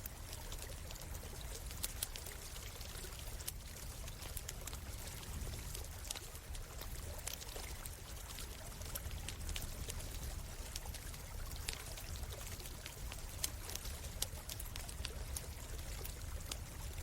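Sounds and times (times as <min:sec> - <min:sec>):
campfire crackling: 0:00.0 - 0:17.0
stream water running: 0:00.0 - 0:17.0.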